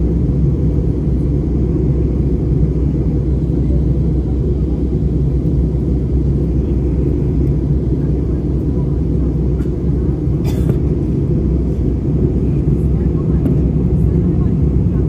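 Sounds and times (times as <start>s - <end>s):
airliner low rumble: 0.0s - 15.0s.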